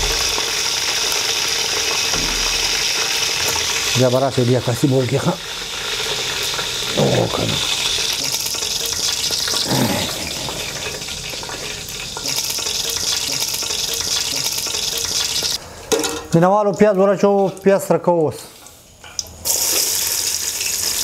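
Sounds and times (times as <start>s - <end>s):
hot oil sizzling in a pot: 0.0s - 21.0s.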